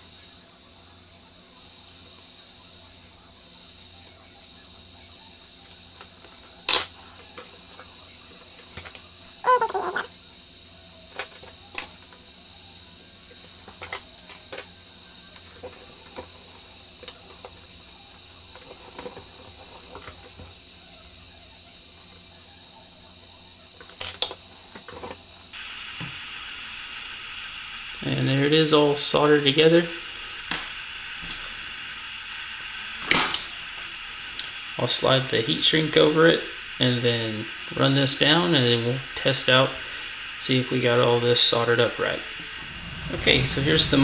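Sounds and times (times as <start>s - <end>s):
steady high hiss: 0.0s - 44.0s.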